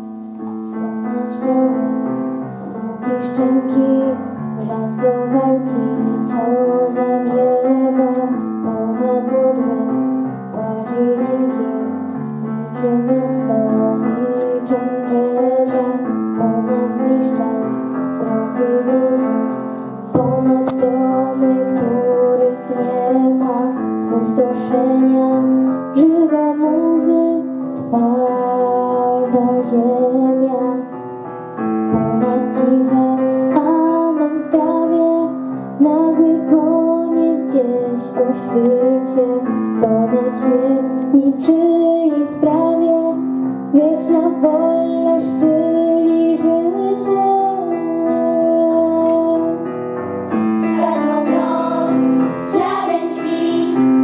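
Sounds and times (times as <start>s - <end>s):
piano chords: 0.0s - 54.0s
girl singing: 0.6s - 31.0s, 31.9s - 49.7s, 50.6s - 54.0s.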